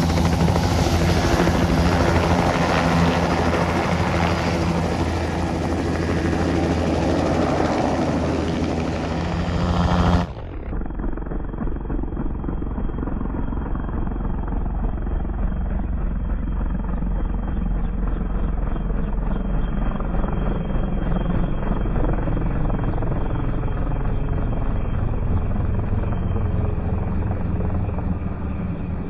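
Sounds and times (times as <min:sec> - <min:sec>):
helicopter engine and rotor beat: 0:00.0 - 0:29.0.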